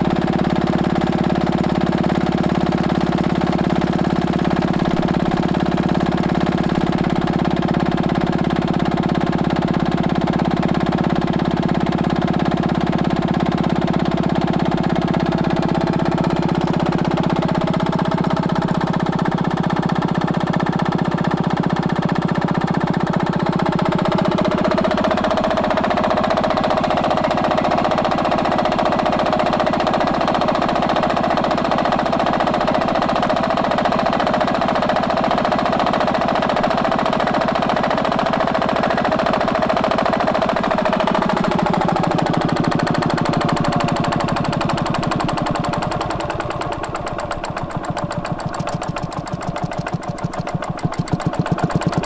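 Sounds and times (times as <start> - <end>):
stationary engine running: 0.0 - 52.0.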